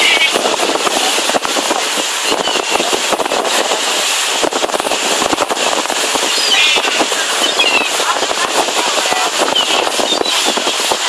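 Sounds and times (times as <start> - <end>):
boat engine and wake rushing: 0.0 - 11.0
wind buffeting microphone: 0.0 - 11.0.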